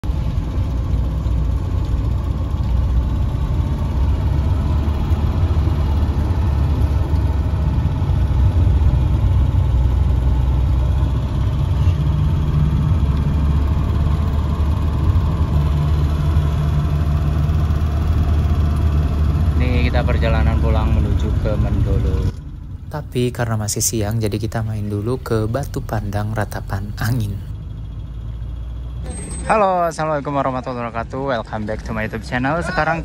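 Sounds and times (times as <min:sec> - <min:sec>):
car engine and road drone: 0:00.0 - 0:33.0.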